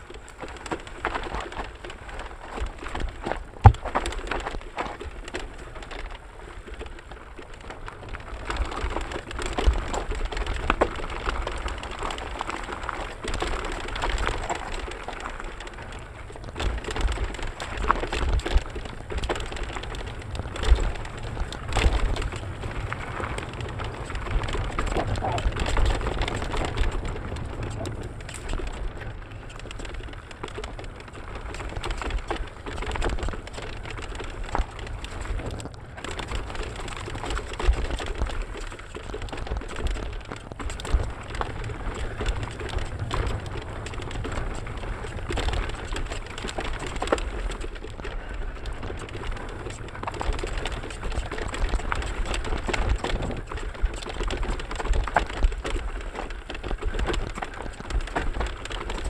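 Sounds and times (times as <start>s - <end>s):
bike rattling: 0.0s - 59.0s
tyres crunching over dirt trail: 0.0s - 59.0s
wind buffeting microphone: 8.1s - 59.0s.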